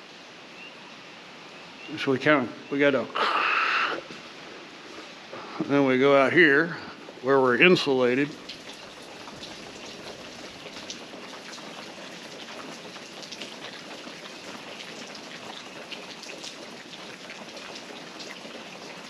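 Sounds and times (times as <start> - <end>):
rain patter on a roof: 1.1 - 19.0
water dripping: 2.9 - 19.0.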